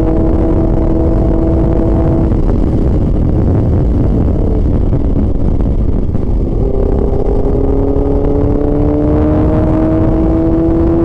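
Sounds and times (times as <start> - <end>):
motorcycle engine: 0.0 - 11.0
wind rumble on microphone: 0.0 - 11.0.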